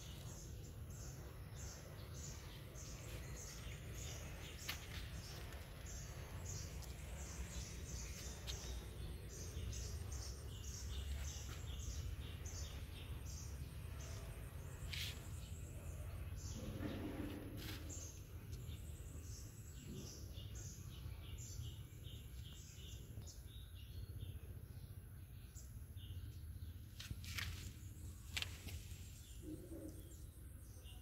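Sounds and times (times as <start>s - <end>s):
low outdoor rumble: 0.0s - 30.8s
small birds chirping: 0.0s - 31.0s.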